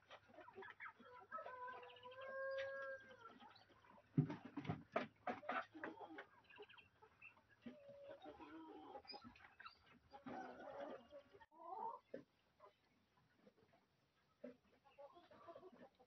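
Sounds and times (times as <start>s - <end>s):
chickens clucking softly: 0.0s - 16.0s.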